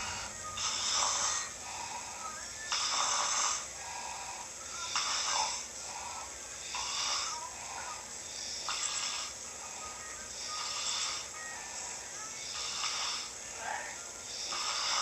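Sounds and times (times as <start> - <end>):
person snoring: 0.0 - 9.8, 10.4 - 11.5, 12.5 - 15.0.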